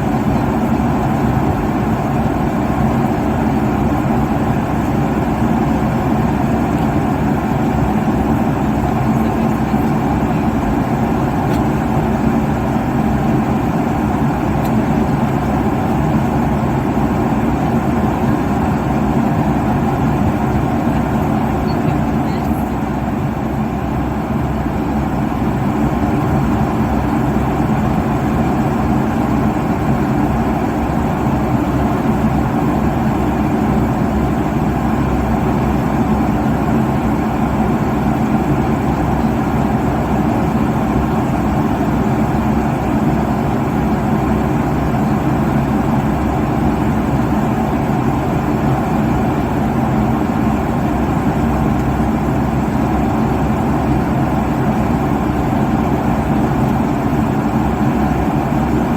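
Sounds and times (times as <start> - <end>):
airliner cabin noise: 0.0 - 58.9.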